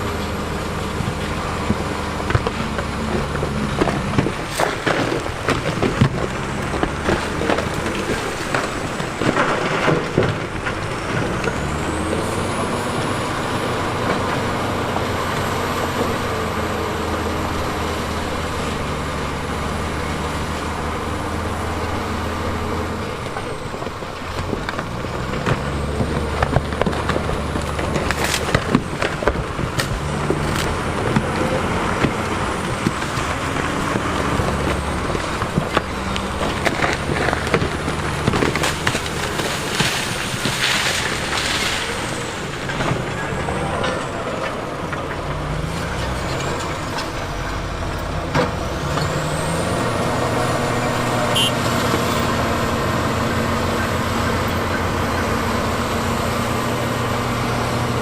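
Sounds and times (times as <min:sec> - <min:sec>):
diesel machine engine under load: 0:00.0 - 0:58.0.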